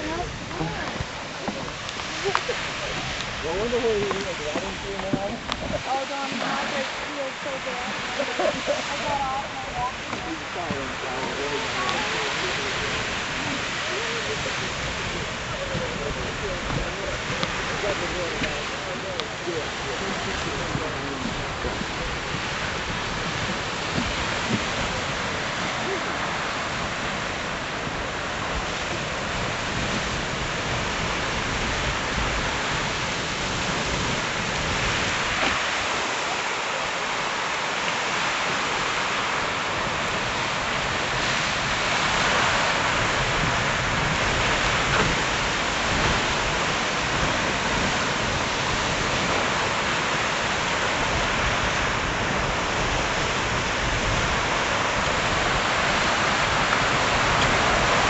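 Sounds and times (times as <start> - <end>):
geyser water column hissing: 0.0 - 58.0.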